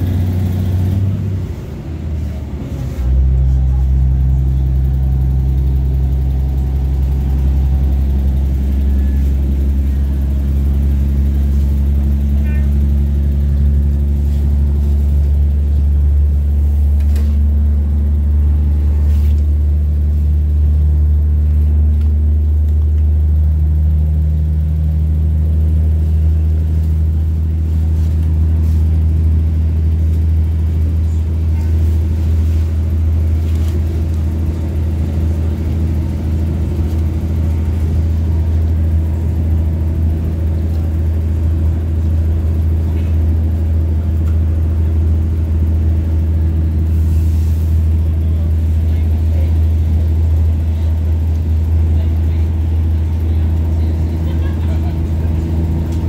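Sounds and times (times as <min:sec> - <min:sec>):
train rumble from inside carriage: 0:00.0 - 0:56.0.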